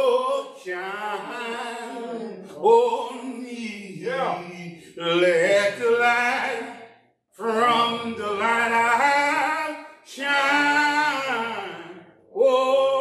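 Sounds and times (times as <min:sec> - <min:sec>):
man singing a cappella: 0:00.0 - 0:06.8, 0:07.4 - 0:13.0.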